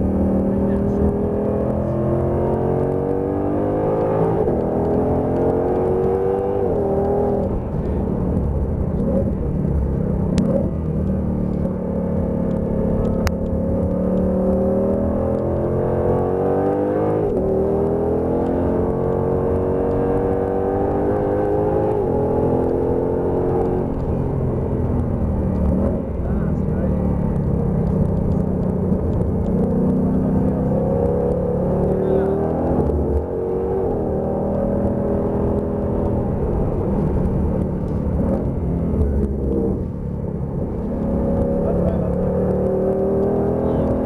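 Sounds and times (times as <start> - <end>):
car engine accelerating: 0.0 - 44.0
tyre and road rumble: 0.0 - 44.0.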